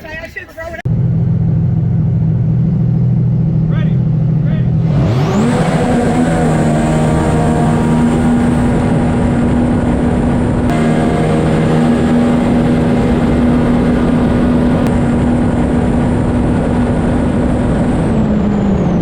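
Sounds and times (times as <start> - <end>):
jet ski engine at full throttle: 0.9 - 19.0.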